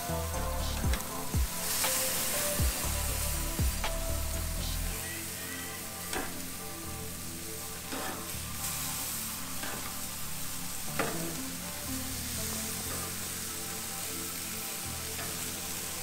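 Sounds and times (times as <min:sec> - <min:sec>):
background music: 0:00.0 - 0:16.0
chicken sizzling on a grill: 0:00.0 - 0:16.0.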